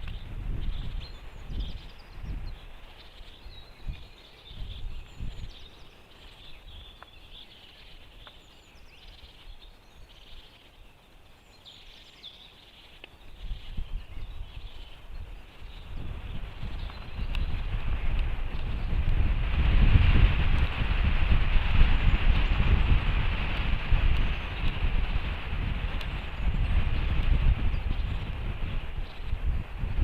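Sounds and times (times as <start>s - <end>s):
small birds chirping: 0.0s - 30.0s
wind rumbling on microphone: 0.0s - 30.0s.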